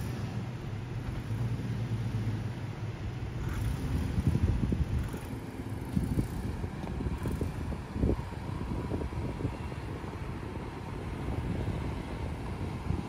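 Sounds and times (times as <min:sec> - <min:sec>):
engine rumbling at low speed: 0:00.0 - 0:13.0.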